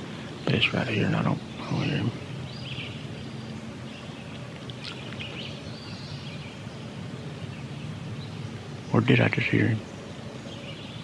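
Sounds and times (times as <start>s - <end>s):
faint songbird chirps: 0.0s - 11.0s.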